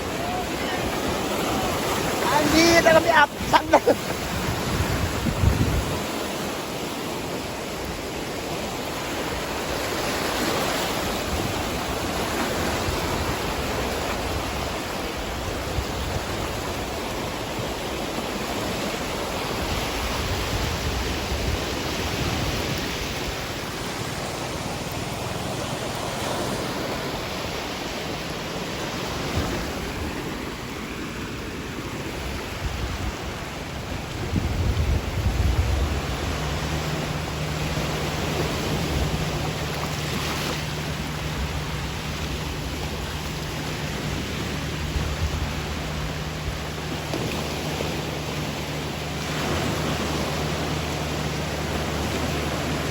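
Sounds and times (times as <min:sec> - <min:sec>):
rush of churning water: 0:00.0 - 0:52.9
wind buffeting microphone: 0:00.0 - 0:52.9.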